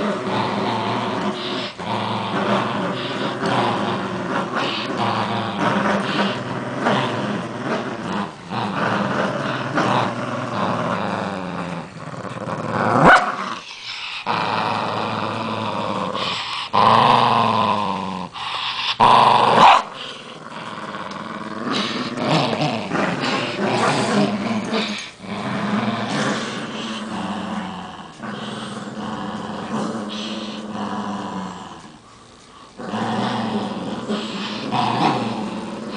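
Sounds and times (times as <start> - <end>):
small dogs growling: 0.0 - 35.9.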